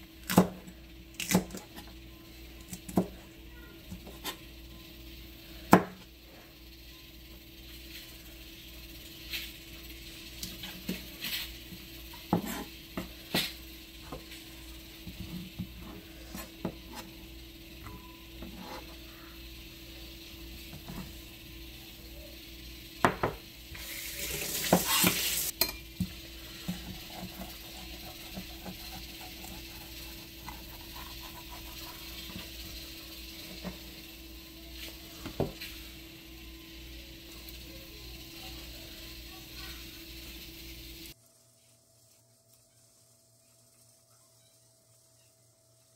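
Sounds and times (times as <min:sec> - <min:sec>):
faint hum: 0:00.0 - 0:45.9.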